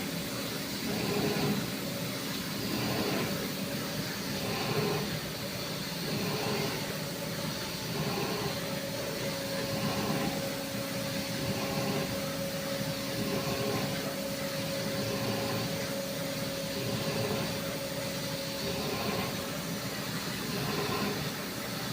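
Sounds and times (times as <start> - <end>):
machine whirring: 0.0 - 21.9
mid-pitched machine whine: 0.0 - 21.9.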